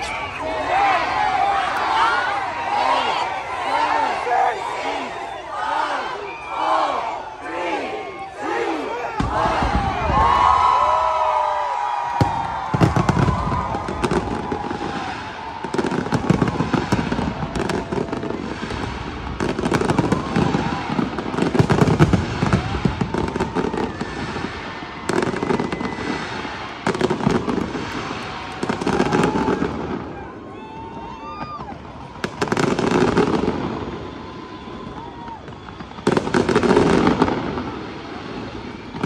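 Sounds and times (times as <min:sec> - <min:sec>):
fireworks bangs and crackles: 0:00.0 - 0:04.0, 0:09.1 - 0:39.0.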